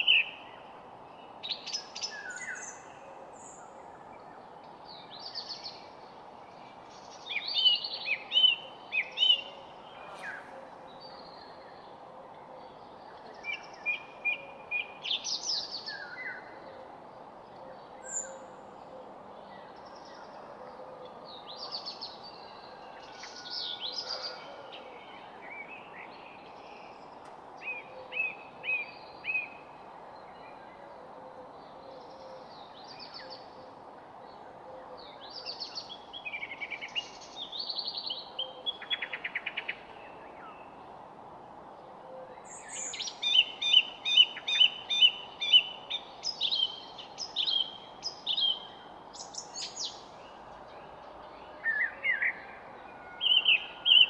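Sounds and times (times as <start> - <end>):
outdoor background hiss: 0.0 - 54.0
songbirds chirping: 0.0 - 54.0.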